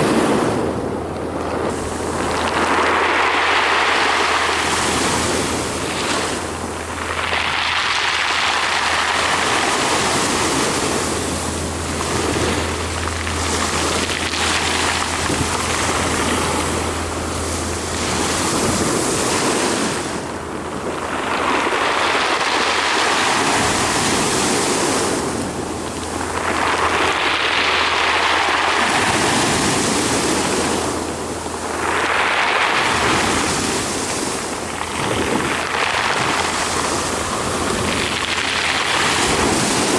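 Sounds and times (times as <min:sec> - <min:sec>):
low steady hum: 0:00.0 - 0:39.9
sea waves breaking: 0:00.0 - 0:39.9.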